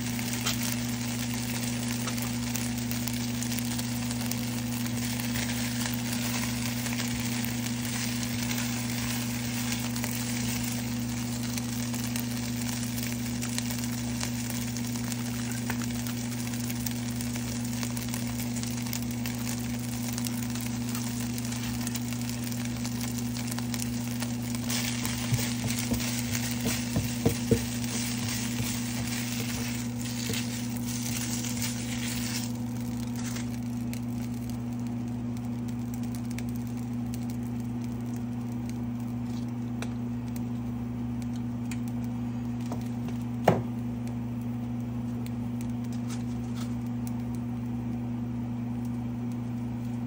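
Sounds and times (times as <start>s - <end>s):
chicken sizzling in a skillet: 0.0s - 48.4s
low electrical hum: 0.0s - 50.0s.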